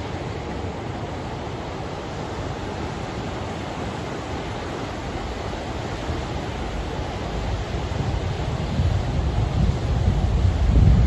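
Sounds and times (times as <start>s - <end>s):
ocean surf breaking: 0.0s - 11.0s
wind rumble on microphone: 0.0s - 11.0s.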